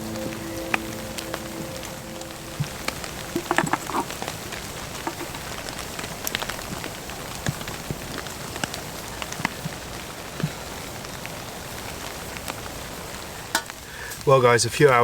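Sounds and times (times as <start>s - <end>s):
raindrops clicking near microphone: 0.0s - 15.0s
steady rain falling: 0.0s - 15.0s.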